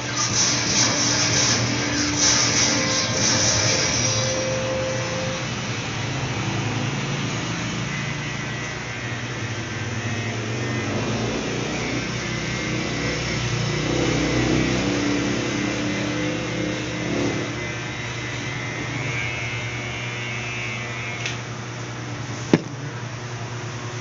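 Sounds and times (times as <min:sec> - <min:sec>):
electric hair clippers buzzing: 0:00.0 - 0:21.6.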